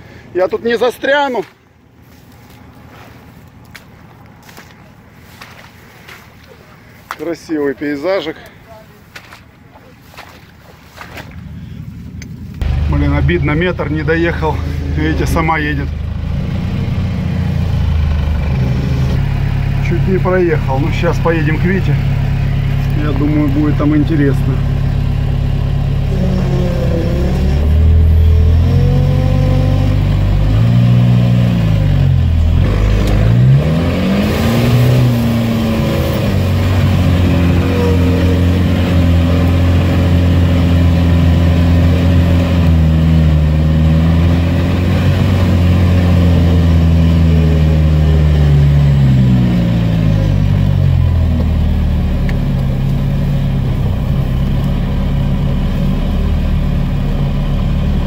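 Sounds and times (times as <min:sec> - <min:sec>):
off-road vehicle engine revving: 0:10.0 - 0:58.0.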